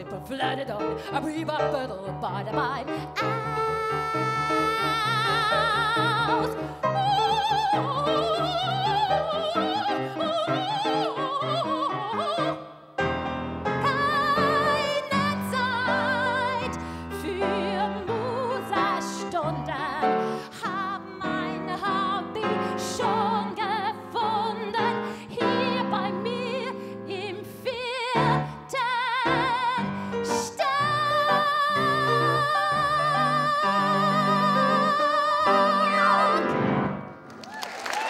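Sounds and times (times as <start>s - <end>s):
woman singing operatically: 0.0s - 12.9s, 13.8s - 36.6s
piano and small band: 0.0s - 38.0s.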